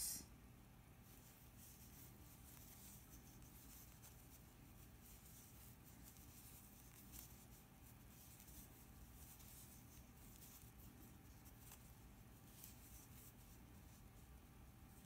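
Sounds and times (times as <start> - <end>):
yarn and crochet hook rustling: 1.0 - 15.0.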